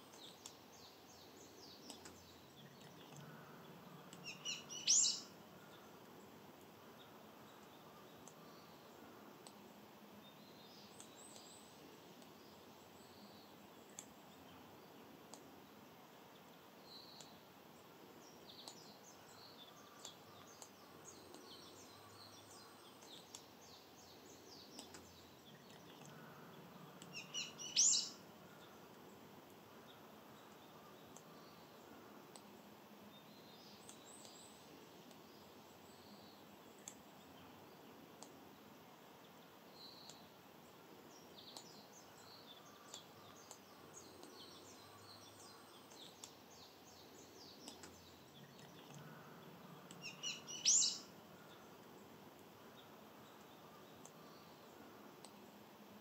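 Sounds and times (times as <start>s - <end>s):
faint background hiss: 0.0s - 56.0s
songbirds chirping: 0.0s - 56.0s.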